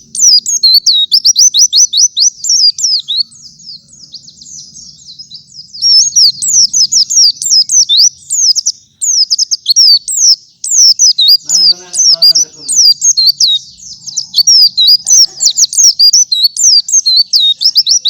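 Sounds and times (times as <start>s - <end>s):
bird singing high sweeping chirps: 0.0s - 18.0s.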